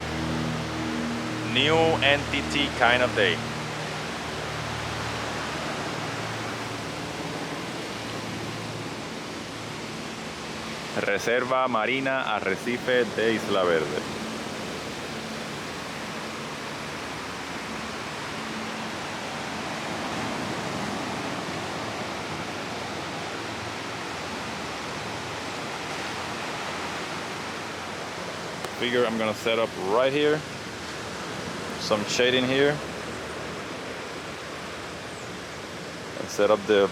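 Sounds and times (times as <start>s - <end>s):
ocean surf on a beach: 0.0s - 36.9s.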